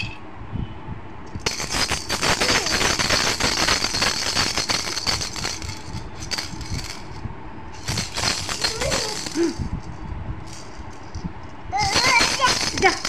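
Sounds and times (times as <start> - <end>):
plastic toy rattle shaking: 1.3 - 7.2, 7.8 - 13.0.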